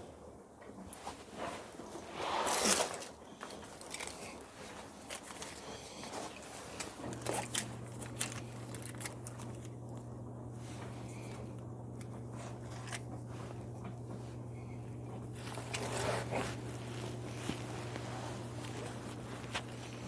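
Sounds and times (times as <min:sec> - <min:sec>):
steady low hum: 0:00.0 - 0:20.0
clicks and rustles of hand work: 0:02.5 - 0:10.0, 0:10.7 - 0:20.0.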